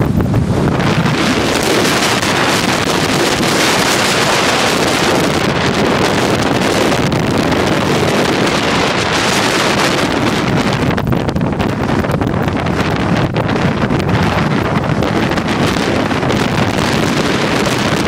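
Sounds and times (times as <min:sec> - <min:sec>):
storm wind buffeting microphone: 0:00.0 - 0:18.0
waves breaking on rocky shore: 0:00.0 - 0:18.0.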